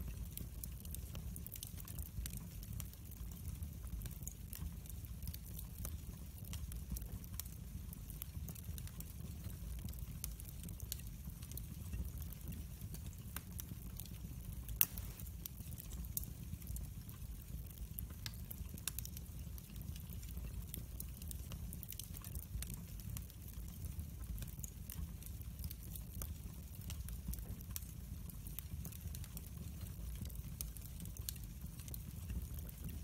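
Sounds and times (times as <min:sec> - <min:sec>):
fire crackling and popping: 0:00.0 - 0:33.0
low fire rumble: 0:00.0 - 0:33.0.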